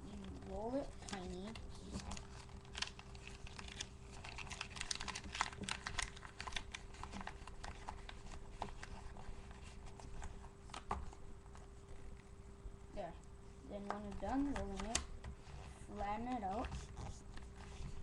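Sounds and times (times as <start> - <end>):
paper crackling and rustling: 0.0 - 12.4, 14.0 - 18.0
faint steady hum: 0.0 - 18.0.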